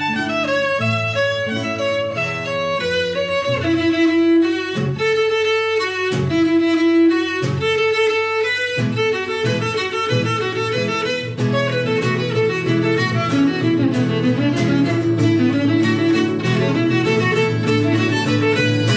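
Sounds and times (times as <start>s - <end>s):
acoustic guitar plucking: 0.0s - 18.9s
horsehead fiddle folk melody: 0.0s - 18.9s.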